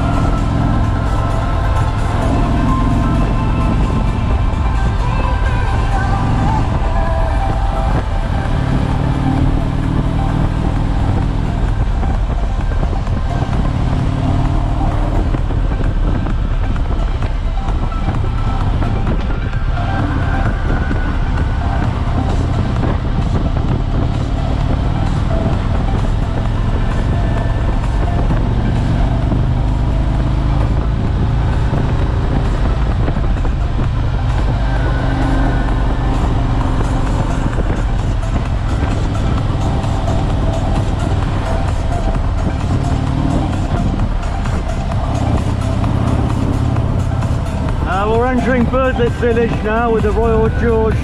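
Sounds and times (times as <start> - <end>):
trike engine cruising: 0.0 - 51.0
wind and road noise: 0.0 - 51.0.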